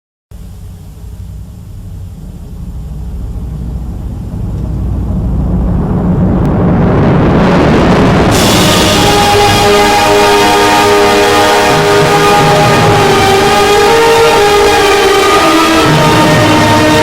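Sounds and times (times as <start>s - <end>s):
deep rumbling roar: 0.4s - 17.0s.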